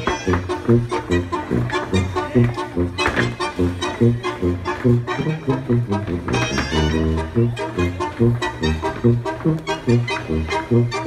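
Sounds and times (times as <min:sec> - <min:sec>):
brass band oom-pah music: 0:00.0 - 0:11.0.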